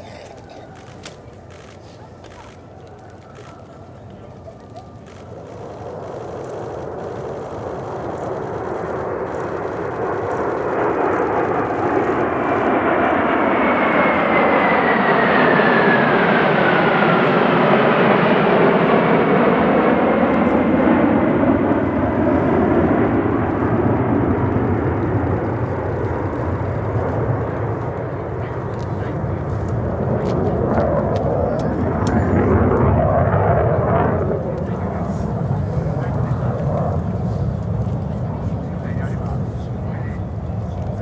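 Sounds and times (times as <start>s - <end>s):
jet engine rumble flying past: 0.0s - 41.0s.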